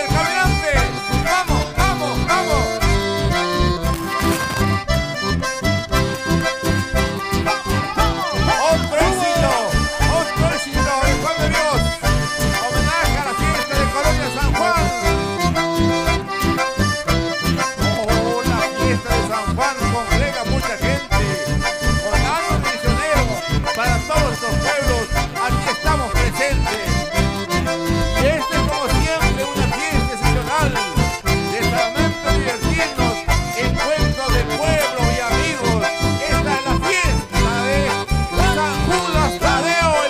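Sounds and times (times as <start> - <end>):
bass beat: 0.0 - 40.0
button accordions playing: 0.0 - 40.0
guitars: 0.0 - 40.0.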